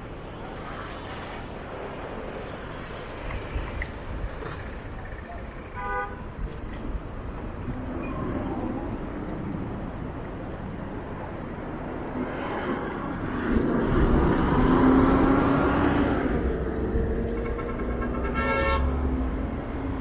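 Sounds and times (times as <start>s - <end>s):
cars passing on busy road: 0.0s - 20.0s.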